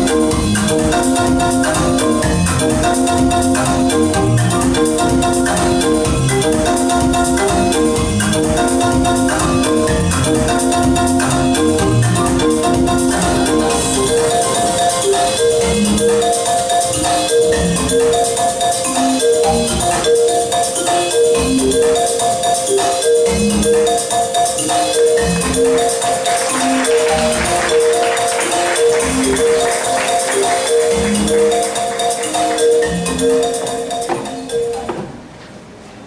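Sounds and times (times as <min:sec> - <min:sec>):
repetitive electronic music: 0:00.0 - 0:35.2.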